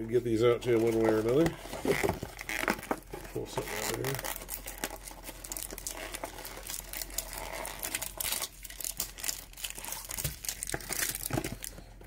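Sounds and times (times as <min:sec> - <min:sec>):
cardboard packaging crinkling: 0:00.2 - 0:12.0
cardboard tearing: 0:00.7 - 0:11.7.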